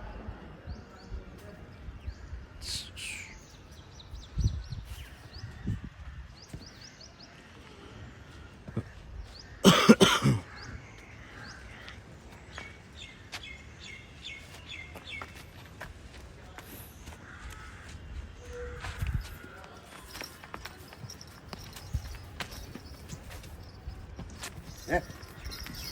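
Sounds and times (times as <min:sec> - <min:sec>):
small birds chirping: 0:00.7 - 0:25.9.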